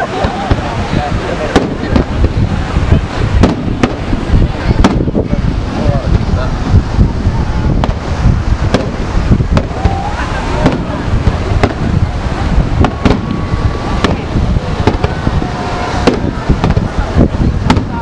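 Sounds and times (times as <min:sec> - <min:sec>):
fireworks bursting: 0:00.0 - 0:18.0
steady low rumble: 0:00.0 - 0:18.0.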